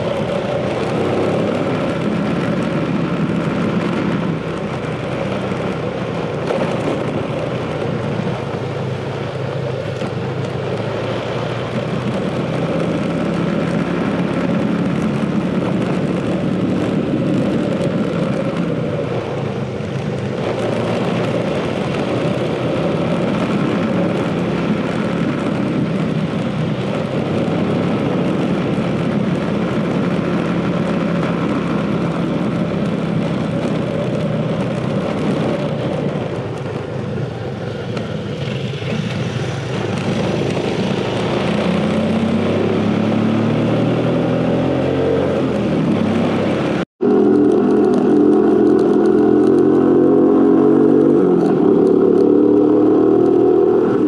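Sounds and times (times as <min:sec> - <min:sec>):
motorcycle engine running: 0:00.0 - 0:54.0
rushing travel noise: 0:00.0 - 0:54.0.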